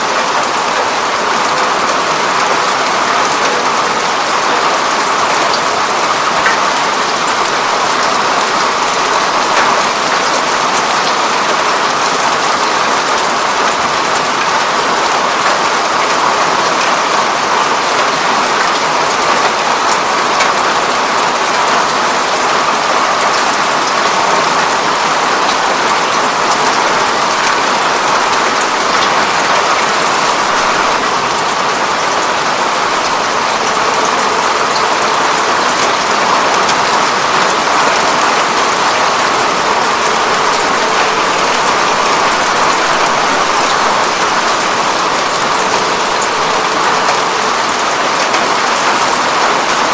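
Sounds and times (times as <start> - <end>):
rain pattering on window: 0.0 - 49.9.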